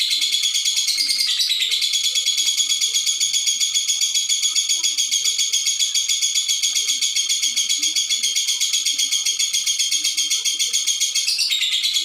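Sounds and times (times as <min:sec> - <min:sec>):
lovebird chattering trill: 0:00.0 - 0:12.0.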